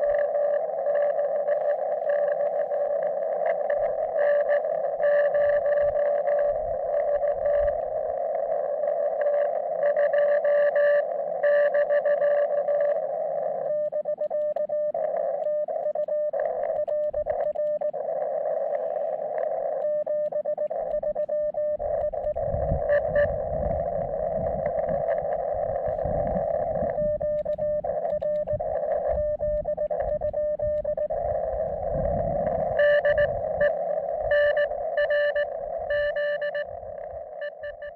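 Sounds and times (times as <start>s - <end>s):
morse code beeps: 0.0s - 37.9s
radio receiver hiss: 0.0s - 37.9s.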